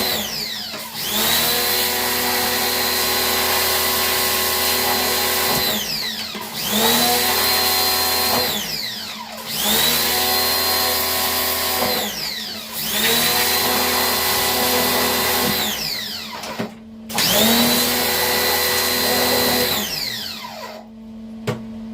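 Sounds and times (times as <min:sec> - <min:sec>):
small electric motor whining: 0:00.0 - 0:20.9.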